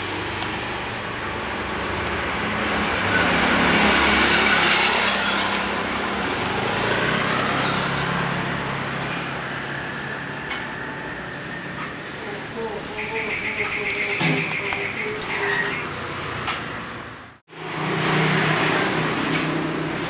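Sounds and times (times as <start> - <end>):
steady traffic noise: 0.0 - 20.0
vehicle engine passing: 0.0 - 20.0.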